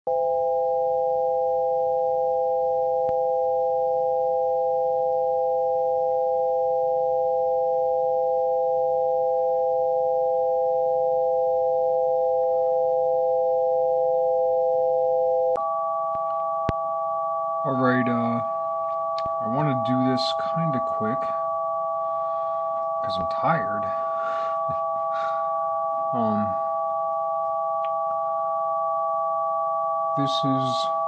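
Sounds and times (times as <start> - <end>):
synthesized sine tone chord: 0.1 - 31.0.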